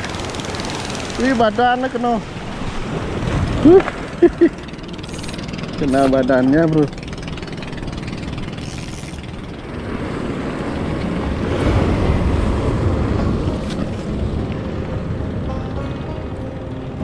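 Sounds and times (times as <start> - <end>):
surf washing against rocks: 0.0 - 14.7
wind buffeting microphone: 2.3 - 17.0.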